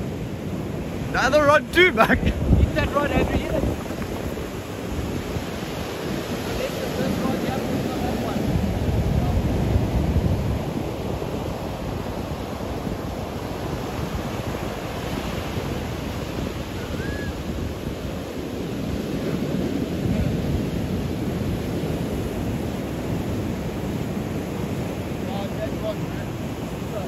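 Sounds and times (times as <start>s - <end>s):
surf breaking over rocks: 0.0s - 27.0s
wind buffeting microphone: 0.0s - 27.0s.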